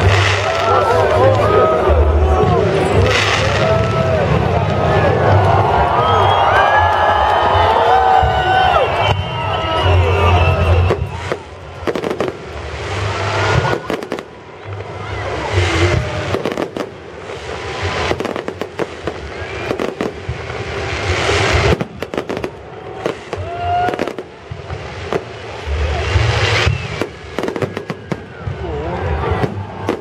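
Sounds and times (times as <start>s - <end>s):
fireworks bangs and booms: 0.0s - 30.0s
fireworks crackle and hiss: 0.0s - 30.0s.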